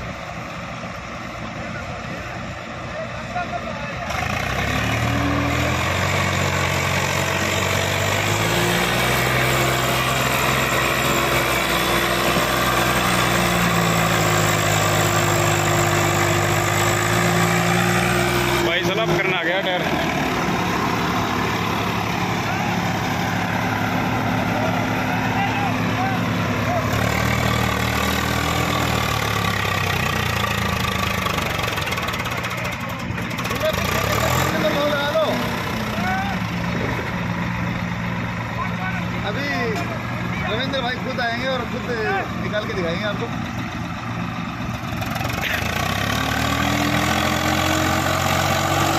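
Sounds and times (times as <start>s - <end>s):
tractor diesel engine under load: 0.0s - 48.9s.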